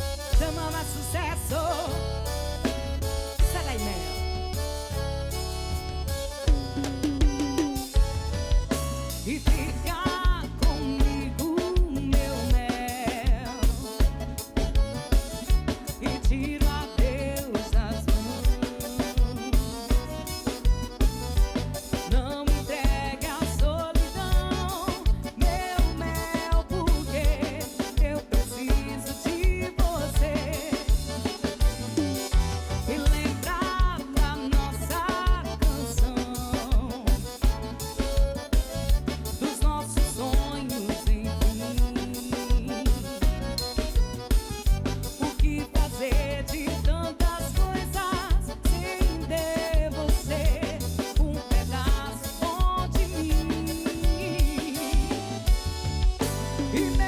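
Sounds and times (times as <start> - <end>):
live band instrumental music: 0.0 - 57.0.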